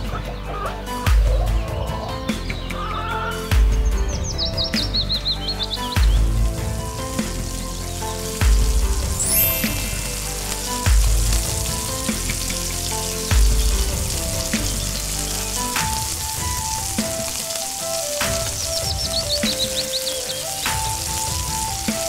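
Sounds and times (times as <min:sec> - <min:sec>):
background music: 0:00.0 - 0:22.0
oil sizzling in a pot: 0:03.6 - 0:22.0.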